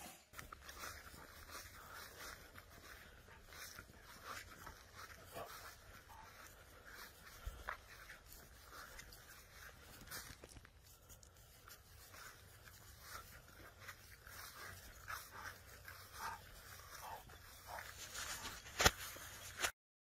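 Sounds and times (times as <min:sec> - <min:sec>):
dog rustling over frosty grass: 0:00.4 - 0:19.7.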